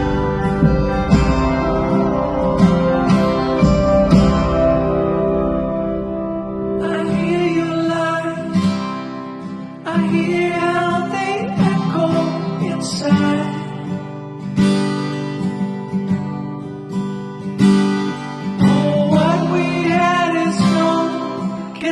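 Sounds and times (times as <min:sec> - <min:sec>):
acoustic guitar strumming chords: 0:00.0 - 0:21.9.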